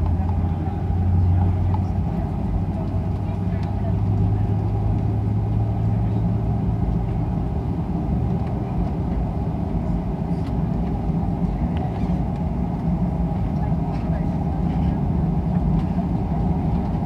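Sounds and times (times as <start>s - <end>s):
jet engines droning in cabin: 0.0s - 17.0s.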